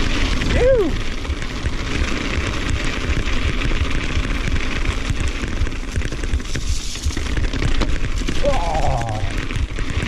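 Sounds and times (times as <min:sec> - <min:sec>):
bike clicks and rattles: 0:00.0 - 0:10.0
bike tyres rolling on dirt: 0:00.0 - 0:10.0.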